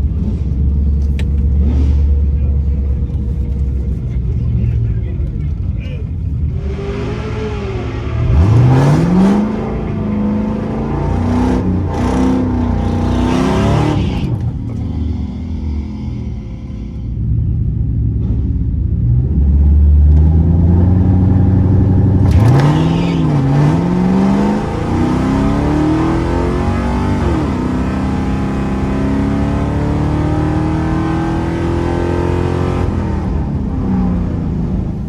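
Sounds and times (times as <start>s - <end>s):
drag car engine accelerating: 0.0s - 35.0s.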